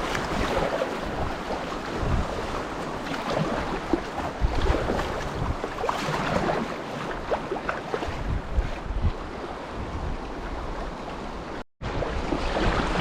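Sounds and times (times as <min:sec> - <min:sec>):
river water rushing and splashing: 0:00.0 - 0:13.0
wind buffeting microphone: 0:00.0 - 0:13.0.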